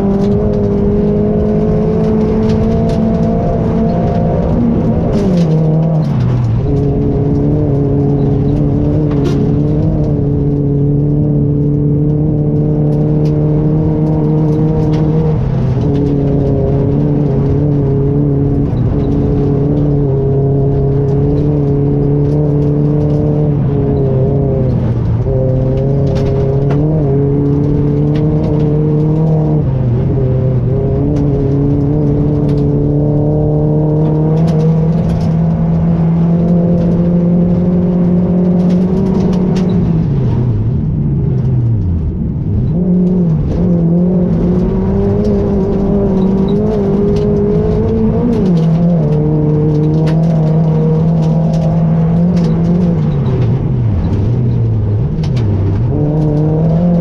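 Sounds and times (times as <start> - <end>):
rally car engine at high revs: 0.0 - 57.0
tyre and road noise: 0.0 - 57.0.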